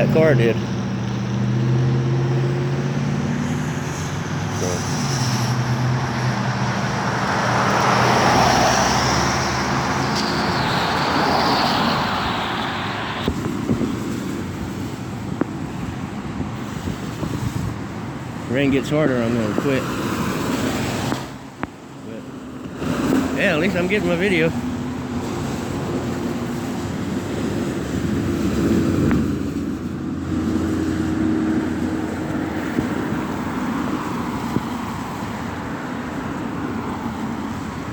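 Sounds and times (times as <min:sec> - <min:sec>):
low engine hum: 0:00.0 - 0:37.9
tyres hissing on wet road: 0:00.0 - 0:37.9.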